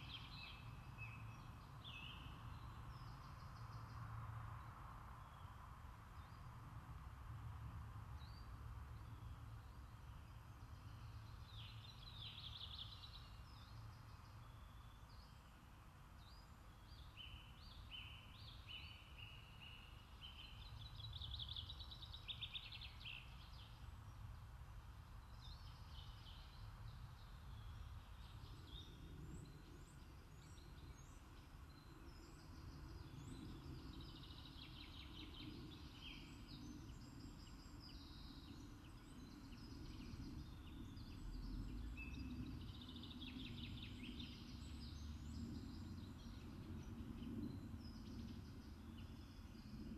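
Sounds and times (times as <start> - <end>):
small birds chirping: 8.2 - 24.4, 25.2 - 49.9.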